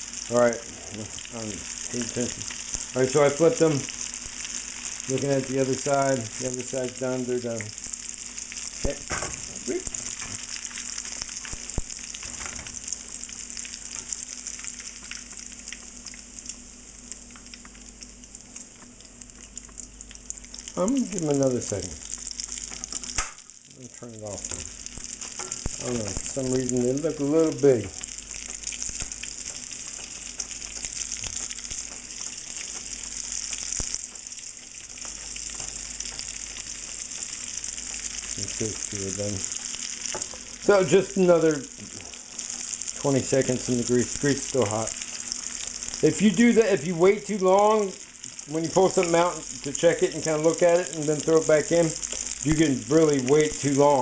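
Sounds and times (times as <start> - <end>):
shrimp sizzling in hot oil: 0.0 - 54.0.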